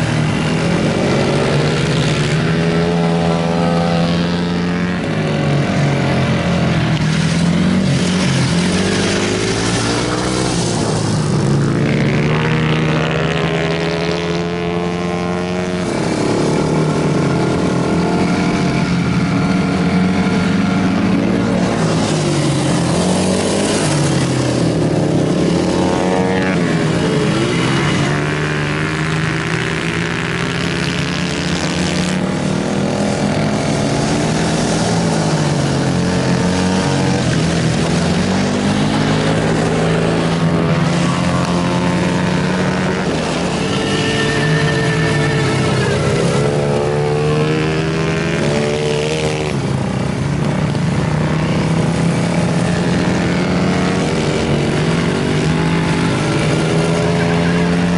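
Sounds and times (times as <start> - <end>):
motorcycle engines racing: 0.0 - 57.9.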